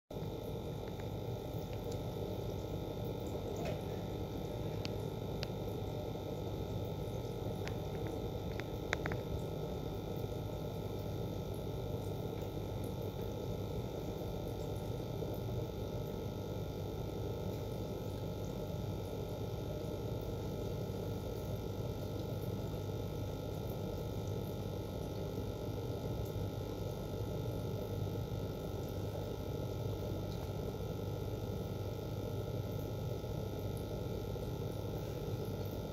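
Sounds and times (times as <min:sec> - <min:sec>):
aquarium equipment humming: 0:00.1 - 0:35.9.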